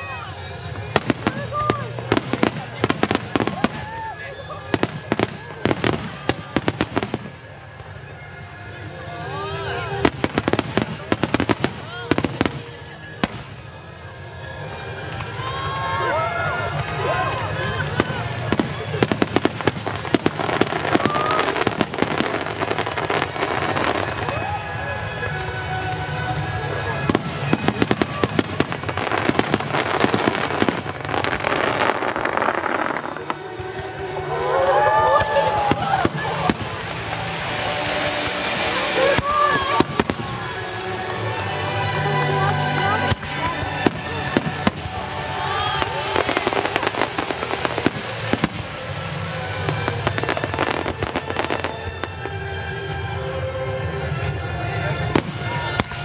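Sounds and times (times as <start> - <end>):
fireworks bursting and crackling: 0.0 - 56.0
music: 0.0 - 56.0.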